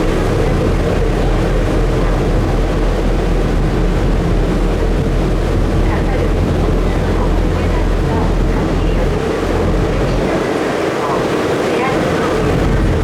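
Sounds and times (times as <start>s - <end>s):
ferry engine rumble: 0.0s - 13.0s
water rushing: 0.0s - 13.0s.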